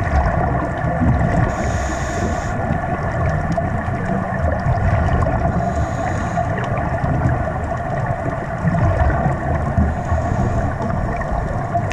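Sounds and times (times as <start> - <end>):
divers' exhaled bubbles underwater: 0.0 - 11.9.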